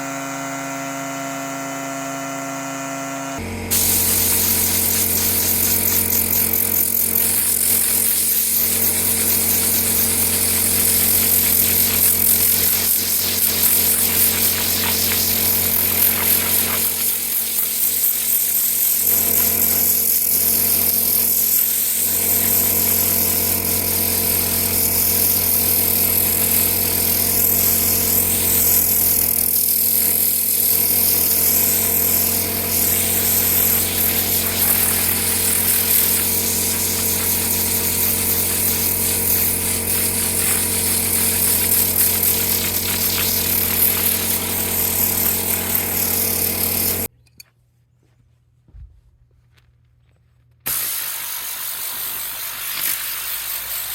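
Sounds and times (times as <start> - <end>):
electric cleaning tool motor hum: 0.0 - 47.1, 50.7 - 53.9.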